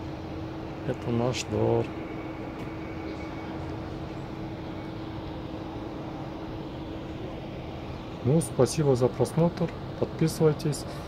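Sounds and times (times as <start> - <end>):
distant traffic hum: 0.0 - 11.0
faint steady tone: 0.0 - 11.0.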